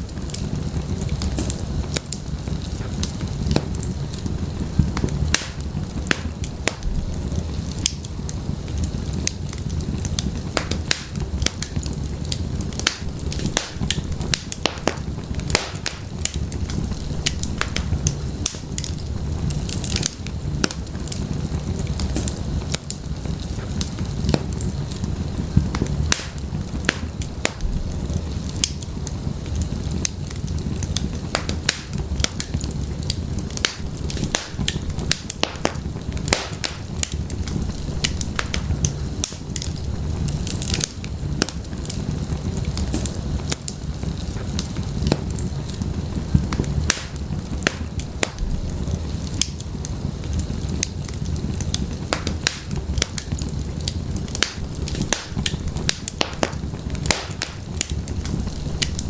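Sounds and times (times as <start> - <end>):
firewood crackling and popping: 0.0 - 59.0
low rumble of flames: 0.0 - 59.0.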